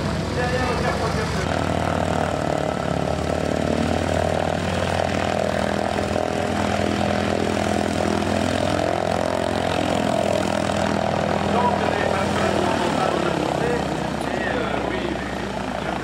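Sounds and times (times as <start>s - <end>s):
propeller aircraft engine running: 0.0s - 16.0s.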